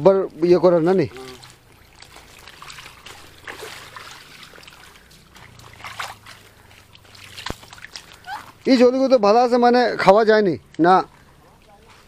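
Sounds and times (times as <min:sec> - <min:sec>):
water trickling faintly: 0:00.0 - 0:12.0.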